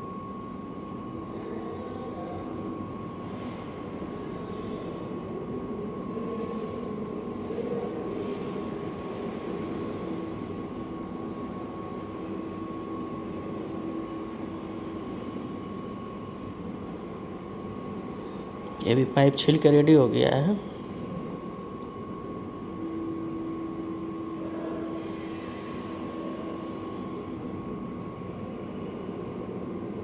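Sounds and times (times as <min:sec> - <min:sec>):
machine drone with high whine: 0:00.0 - 0:30.0.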